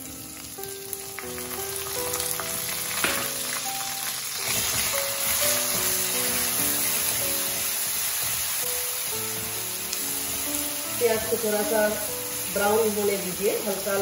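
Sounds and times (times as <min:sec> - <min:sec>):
paste sizzling in hot oil: 0:00.0 - 0:14.0
soft background music: 0:00.0 - 0:14.0.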